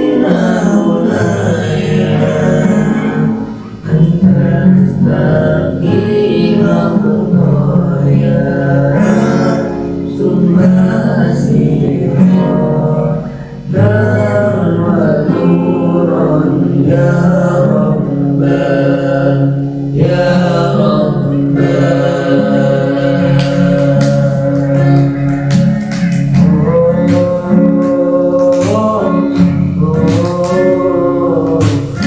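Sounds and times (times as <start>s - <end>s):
musical accompaniment: 0.0s - 32.0s
person singing devotional song: 0.0s - 32.0s.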